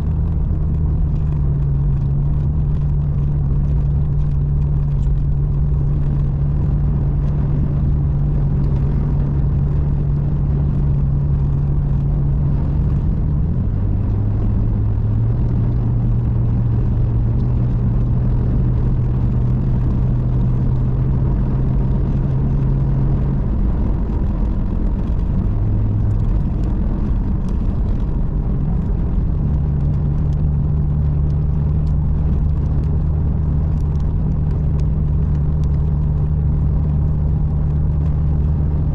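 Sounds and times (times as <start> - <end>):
car engine humming: 0.0 - 38.9
road noise: 0.0 - 38.9.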